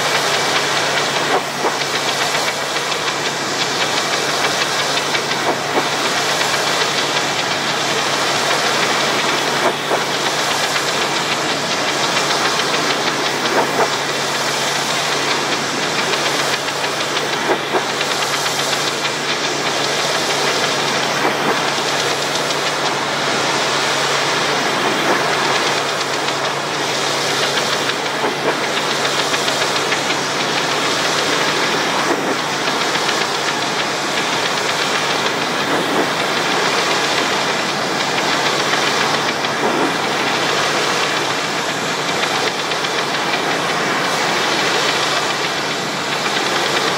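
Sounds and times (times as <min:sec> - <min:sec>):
high-pressure water spray hiss: 0:00.0 - 0:46.9
pressure washer engine hum: 0:00.0 - 0:46.9.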